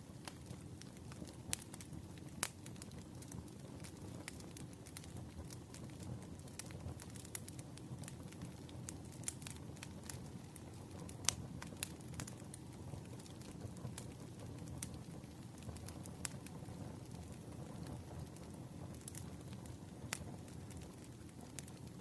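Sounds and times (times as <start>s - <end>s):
campfire crackling and popping: 0.0s - 22.0s
low rumble of flames: 0.0s - 22.0s.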